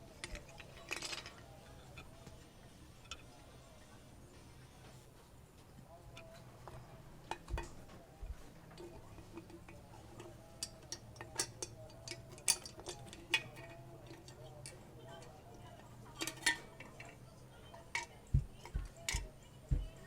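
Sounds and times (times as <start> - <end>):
toys clicking and knocking: 0.0 - 3.4, 6.1 - 20.0.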